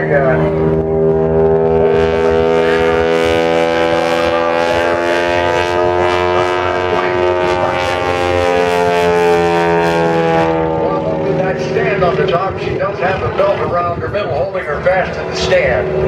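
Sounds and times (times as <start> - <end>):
propeller plane droning past: 0.0 - 16.0.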